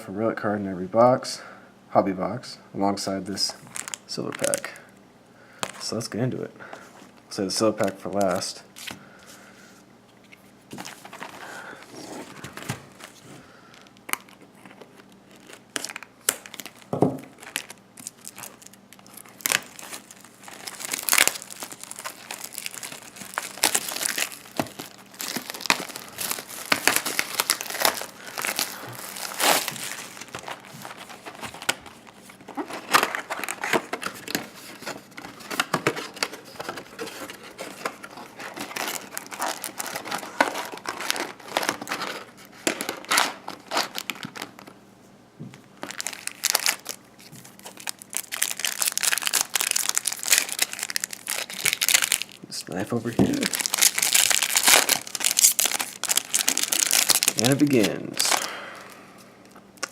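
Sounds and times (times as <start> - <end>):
plastic wrapping crinkling and tearing: 3.5 - 4.8, 10.7 - 44.8, 45.7 - 59.9.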